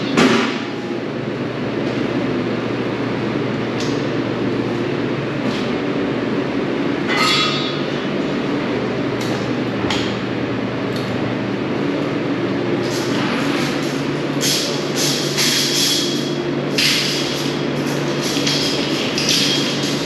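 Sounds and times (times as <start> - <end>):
machinery hum: 0.0 - 20.0.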